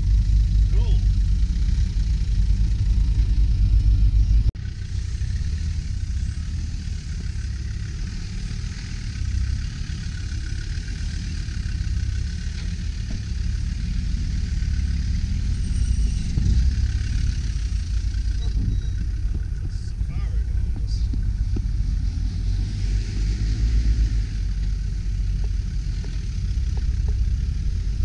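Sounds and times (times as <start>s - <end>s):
vehicle engine at low revs: 0.0s - 28.0s.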